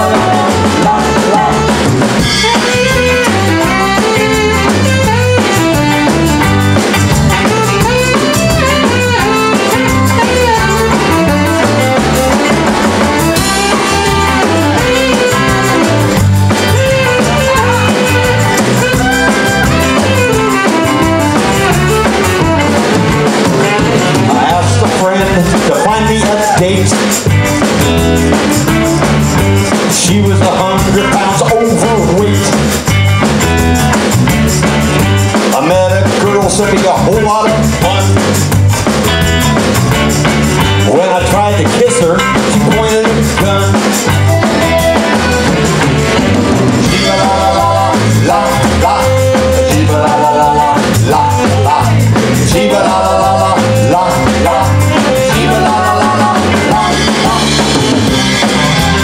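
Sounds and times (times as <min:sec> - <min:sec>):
drum beat: 0:00.0 - 0:59.0
live band playing up-tempo tune: 0:00.0 - 0:59.0.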